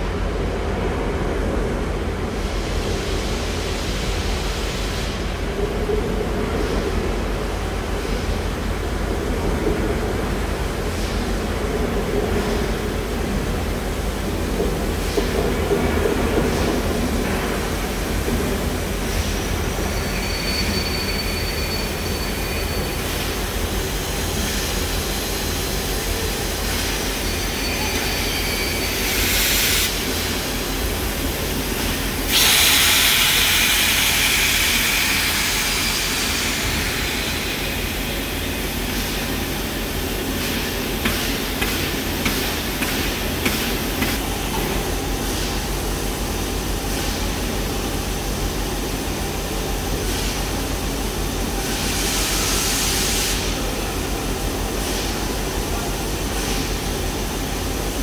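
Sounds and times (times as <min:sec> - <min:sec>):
steam locomotive hissing steam: 0:02.3 - 0:05.6, 0:12.4 - 0:58.0.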